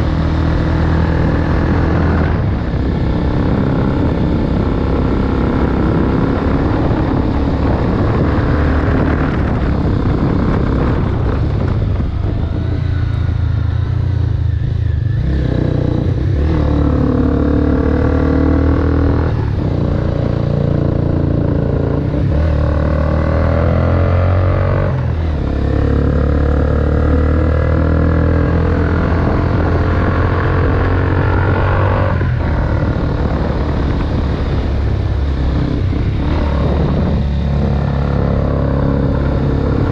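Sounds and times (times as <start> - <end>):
loud motorcycle engine: 0.0 - 39.9.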